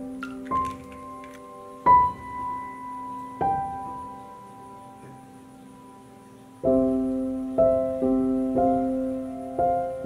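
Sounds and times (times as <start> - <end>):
piano chords: 0.0 - 10.0.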